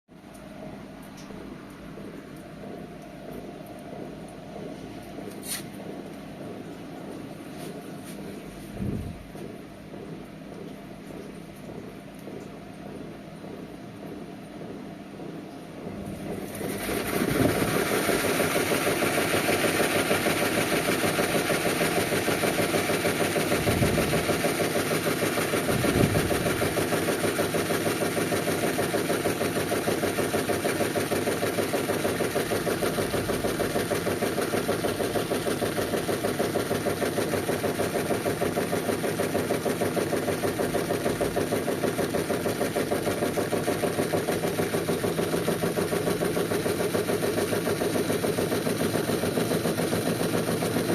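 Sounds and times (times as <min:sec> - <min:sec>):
washing machine running: 0:00.1 - 0:50.9.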